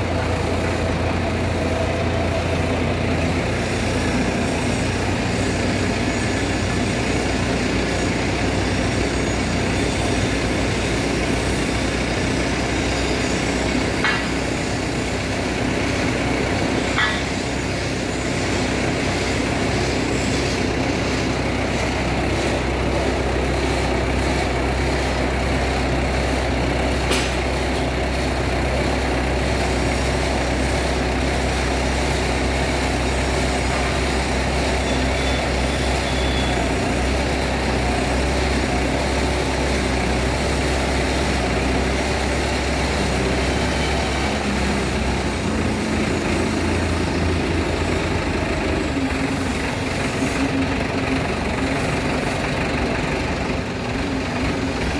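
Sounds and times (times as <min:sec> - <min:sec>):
hydraulic auger boring into soil: 0:00.0 - 0:54.9
tractor engine running under load: 0:00.0 - 0:54.9.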